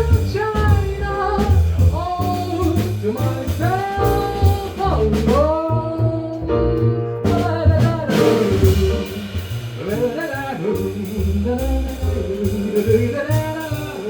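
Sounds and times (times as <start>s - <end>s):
drums: 0.0s - 14.0s
person singing jazz: 0.0s - 14.0s
walking bass line: 0.0s - 14.0s.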